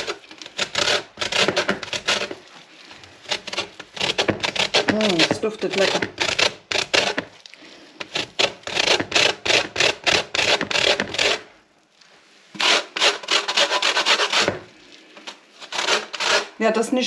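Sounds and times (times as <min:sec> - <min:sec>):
lemon peel being grated: 0:00.0 - 0:07.3, 0:08.0 - 0:11.5, 0:12.6 - 0:16.6.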